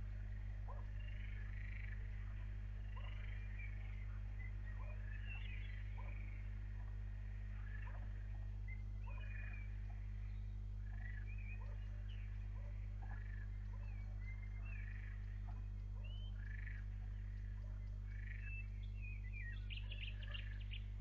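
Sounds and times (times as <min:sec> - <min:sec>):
steady low hum: 0:00.0 - 0:21.0
small animals croaking and chirping: 0:00.2 - 0:21.0.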